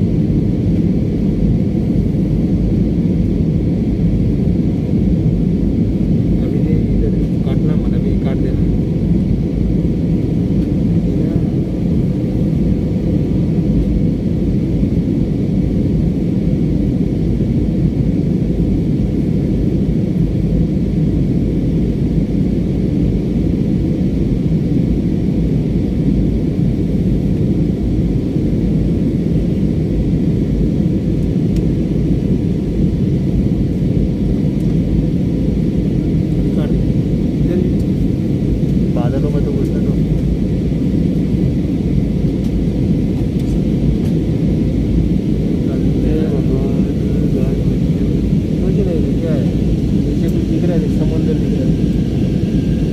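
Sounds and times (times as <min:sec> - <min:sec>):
airliner engines rumbling in cabin: 0:00.0 - 0:52.9.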